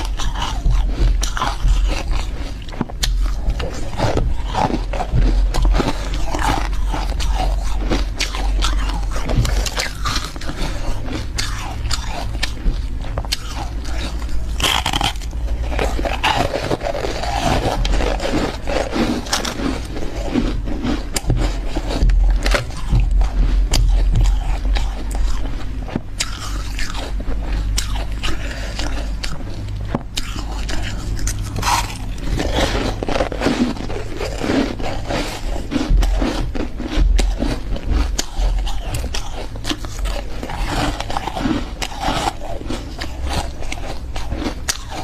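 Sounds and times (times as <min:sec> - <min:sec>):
chewing icy frost crunches: 0:00.0 - 0:45.0
faint low hum: 0:00.0 - 0:45.0.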